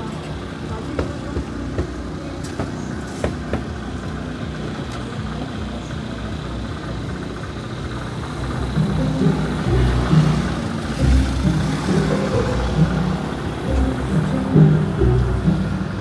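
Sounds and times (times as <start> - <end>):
engine and traffic rumble: 0.0 - 16.0.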